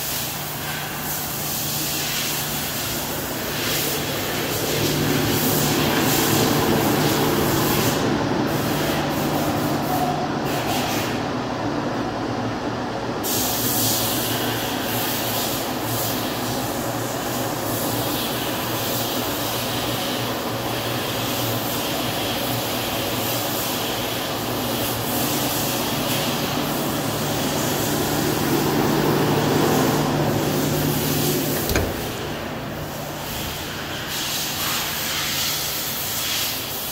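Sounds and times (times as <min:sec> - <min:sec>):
oven mechanical hum: 0:00.0 - 0:36.9.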